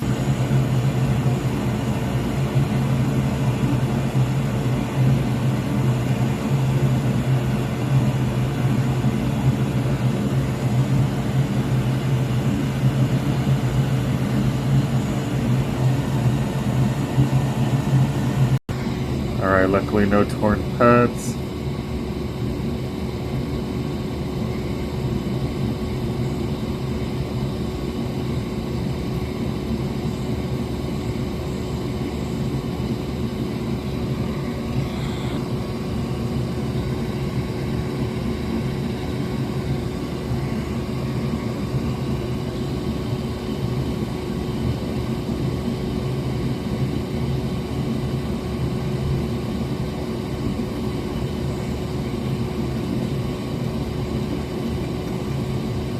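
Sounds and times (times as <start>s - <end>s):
constant tone: 0.0s - 45.9s
fan whirring: 0.0s - 55.9s.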